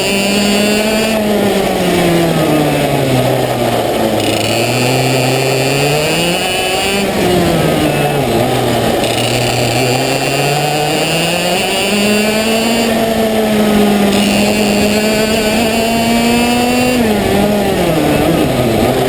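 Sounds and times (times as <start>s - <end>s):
kart engine racing: 0.0s - 19.0s.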